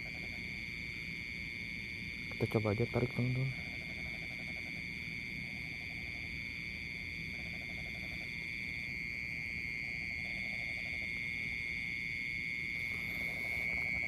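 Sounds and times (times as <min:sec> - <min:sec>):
frogs calling: 0:00.0 - 0:14.0
insects trilling: 0:00.0 - 0:14.0.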